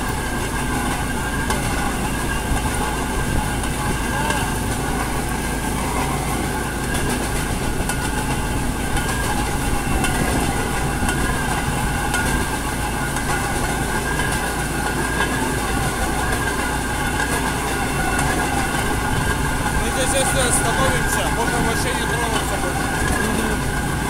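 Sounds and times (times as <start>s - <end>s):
rail wheels rolling on track: 0.0s - 24.0s
wavering high whine: 0.0s - 24.0s.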